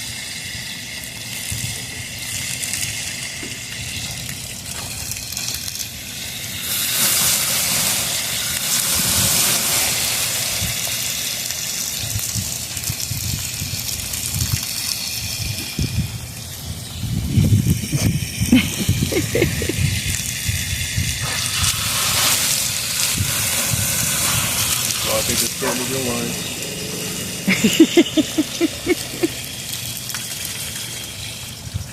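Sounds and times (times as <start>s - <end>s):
garden hose spraying water: 0.0s - 31.9s.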